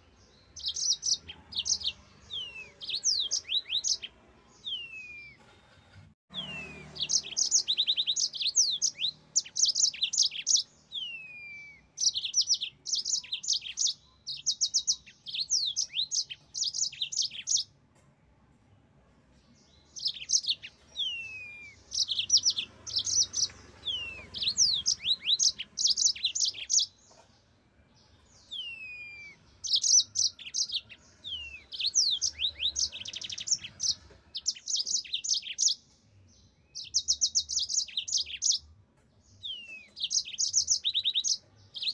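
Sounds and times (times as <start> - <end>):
canary singing: 0.0 - 5.5, 6.3 - 17.8, 19.5 - 27.3, 28.0 - 41.9.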